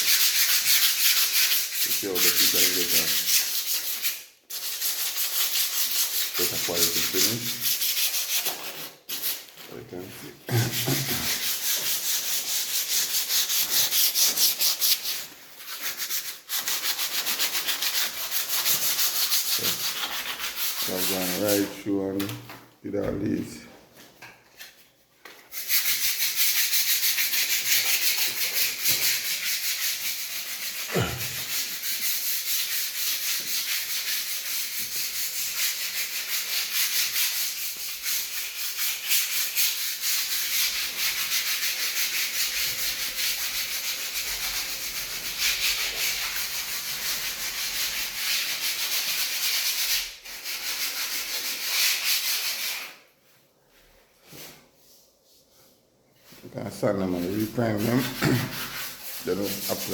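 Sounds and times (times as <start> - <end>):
sandpaper scraping plaster: 0.0 - 22.2, 25.5 - 53.1, 54.2 - 59.9.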